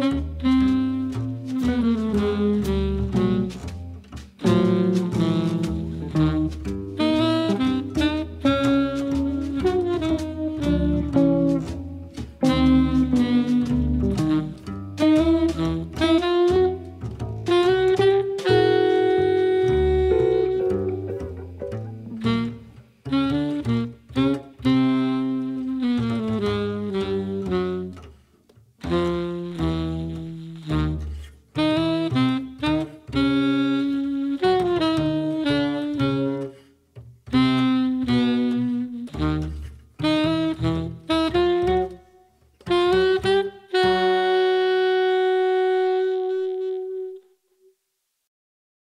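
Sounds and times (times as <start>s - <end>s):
saxophone long held notes: 0.0s - 3.7s, 4.4s - 28.0s, 28.8s - 36.6s, 37.3s - 47.7s
bass line: 0.0s - 28.1s, 28.8s - 36.4s, 37.2s - 47.2s
jazz quartet playing: 0.0s - 47.2s.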